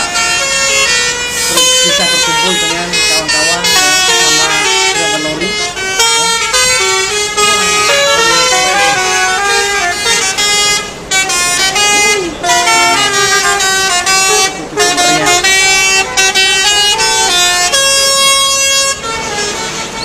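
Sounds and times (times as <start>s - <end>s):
multi-tone musical air horns: 0.0s - 20.0s.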